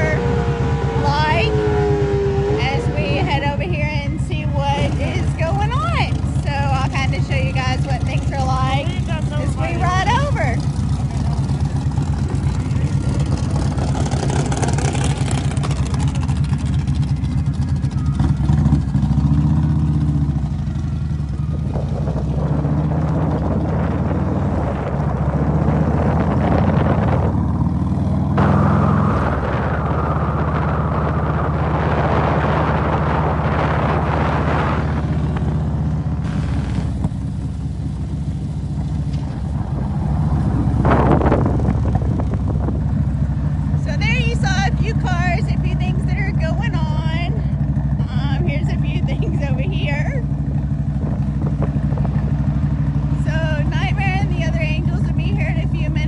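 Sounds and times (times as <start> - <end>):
wind noise: 0.0 - 11.0, 21.1 - 56.0
road noise: 0.0 - 56.0
vehicle engine running: 0.0 - 56.0.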